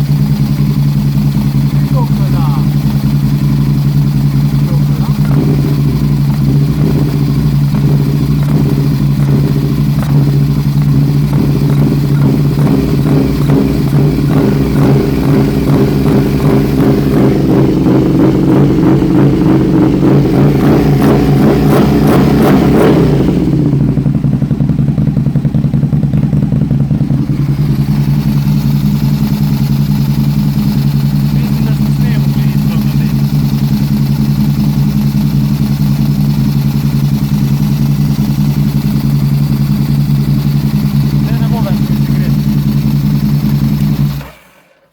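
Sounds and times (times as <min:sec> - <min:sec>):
motorcycle engine idling roughly: 0:00.0 - 0:44.9.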